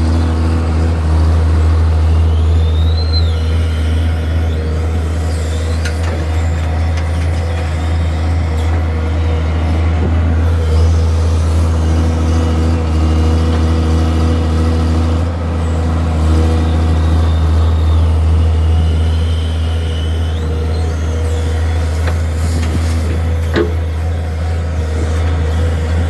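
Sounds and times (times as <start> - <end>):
excavator diesel engine humming: 0.0 - 26.0.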